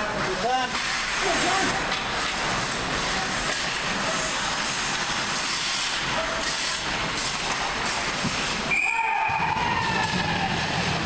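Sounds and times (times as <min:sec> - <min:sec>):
skates scraping ice: 0:00.1 - 0:11.0.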